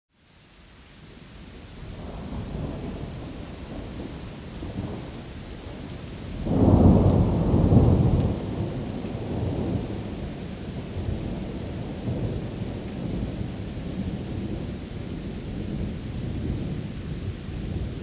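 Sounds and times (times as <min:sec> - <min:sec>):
steady rain: 0:00.1 - 0:18.0
thunder rumble: 0:02.0 - 0:18.0.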